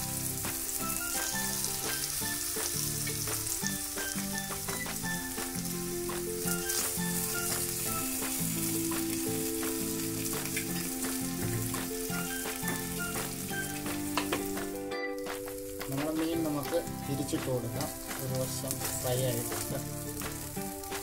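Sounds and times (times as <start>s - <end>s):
fish sizzling in oil: 0.0s - 21.0s
soft background music: 0.0s - 21.0s.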